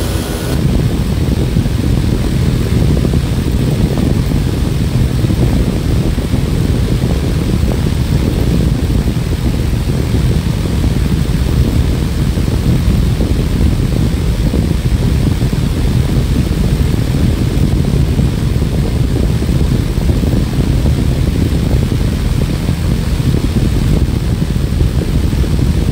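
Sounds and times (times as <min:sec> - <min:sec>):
wind turbine whirring: 0:00.0 - 0:25.9.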